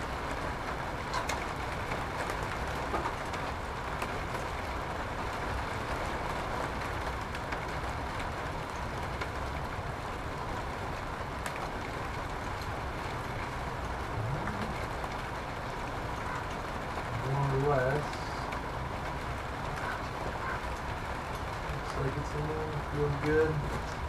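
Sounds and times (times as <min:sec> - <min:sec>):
low background rumble: 0:00.0 - 0:24.0
steady rain: 0:00.0 - 0:24.0.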